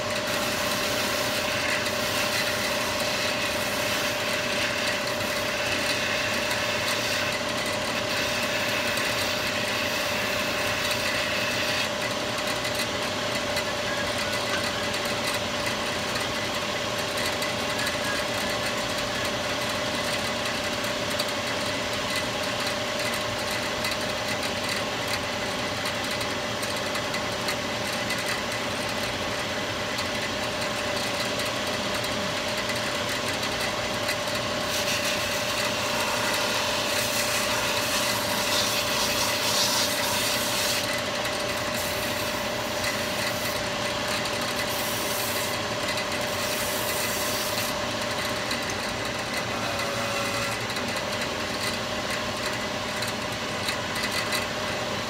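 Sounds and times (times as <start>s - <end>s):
electric motor humming: 0.0s - 22.4s, 30.1s - 54.9s
high motor whine: 0.0s - 55.0s.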